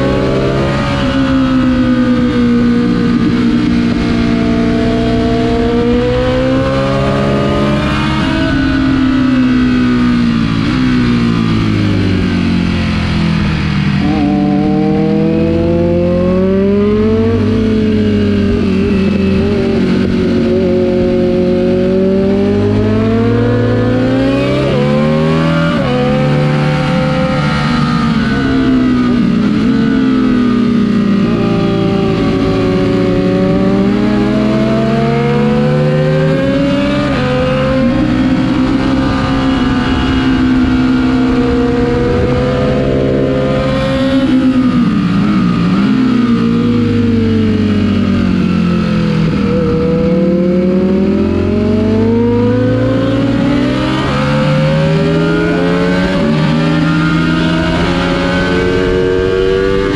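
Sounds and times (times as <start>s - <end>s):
motorcycle engine revving hard: 0.0s - 59.9s.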